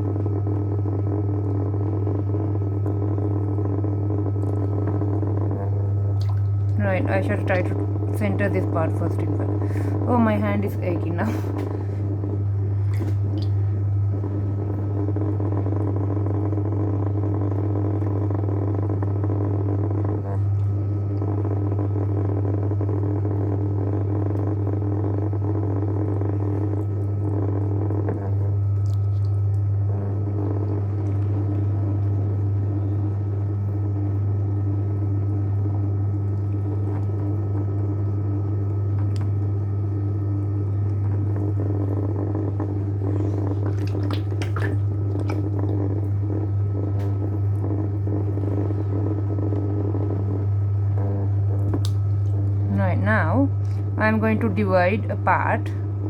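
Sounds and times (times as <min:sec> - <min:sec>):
pottery wheel motor hum: 0:00.0 - 0:56.0.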